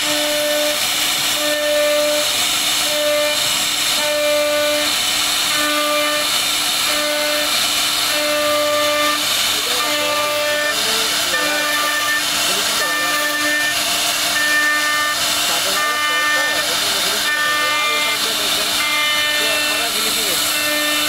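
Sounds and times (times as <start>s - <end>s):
hiss of cutting wood: 0.0s - 21.0s
router spindle whining: 0.0s - 21.0s.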